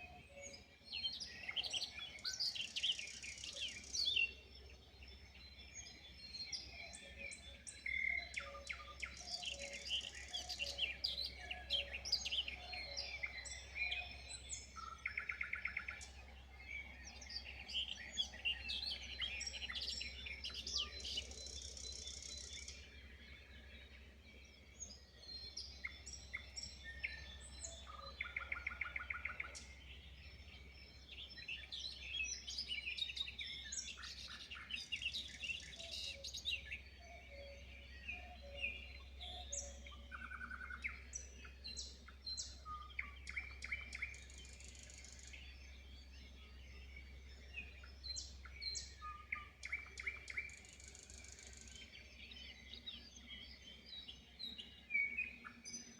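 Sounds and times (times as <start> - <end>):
birds singing and calling: 0.0 - 55.9.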